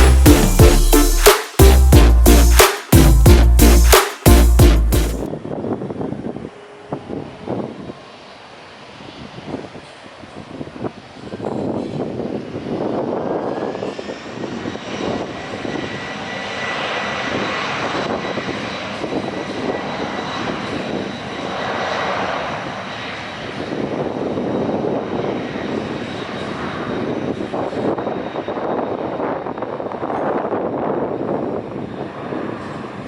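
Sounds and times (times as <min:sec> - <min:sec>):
jet engines roaring: 0:06.1 - 0:33.0.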